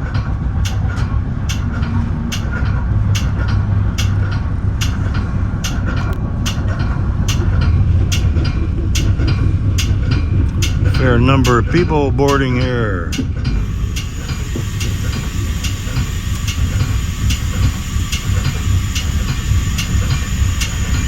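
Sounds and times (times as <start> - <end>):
sharp rail clicks: 0.0 - 21.0
train car rumbling on track: 0.0 - 21.0.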